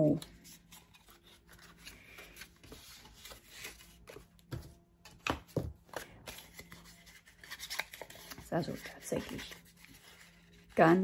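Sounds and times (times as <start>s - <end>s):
cardstock rustling: 0.2s - 11.0s.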